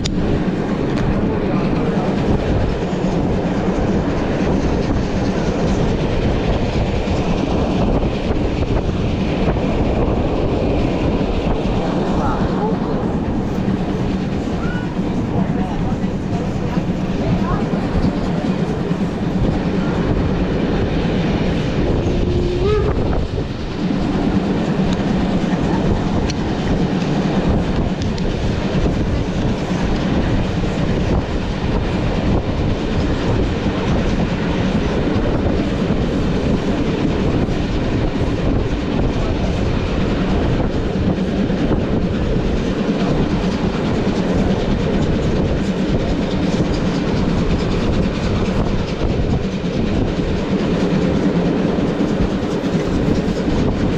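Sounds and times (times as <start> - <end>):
train running rumble: 0.0 - 53.9
train wheels clacking on rails: 0.0 - 53.9.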